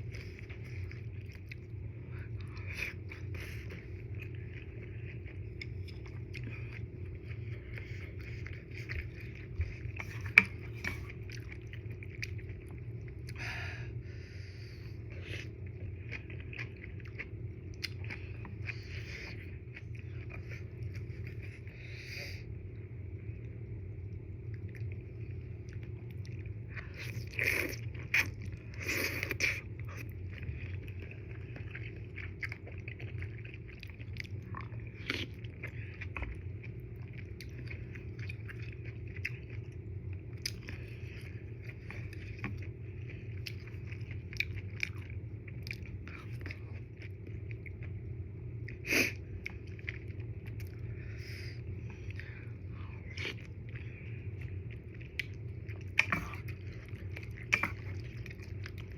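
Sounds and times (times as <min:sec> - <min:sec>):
chewing noodles: 0:00.0 - 0:22.5, 0:24.1 - 0:58.9
steady low hum: 0:00.0 - 0:58.9.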